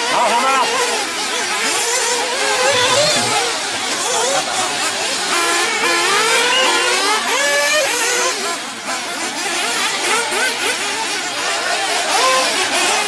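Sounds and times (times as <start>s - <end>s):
small engines revving: 0.0s - 13.0s.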